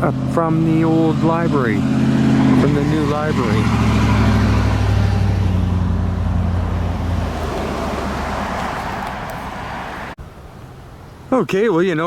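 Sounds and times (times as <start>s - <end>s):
tyre noise on road: 0.0s - 11.1s
vehicle engine hum: 0.0s - 11.1s.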